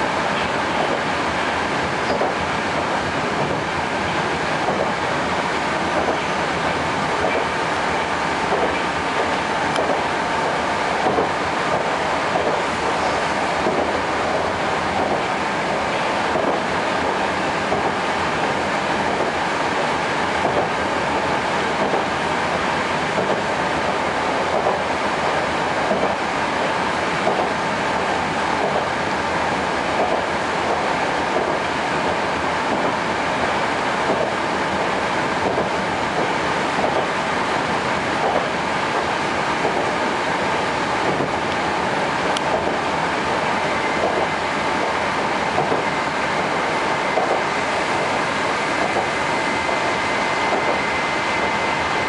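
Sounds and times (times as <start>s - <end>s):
metro train wheels rumbling on rail: 0.0s - 52.0s.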